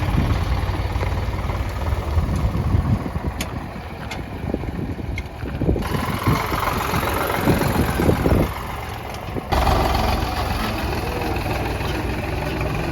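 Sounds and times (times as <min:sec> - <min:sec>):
heavy machinery diesel engine: 0:00.0 - 0:12.9.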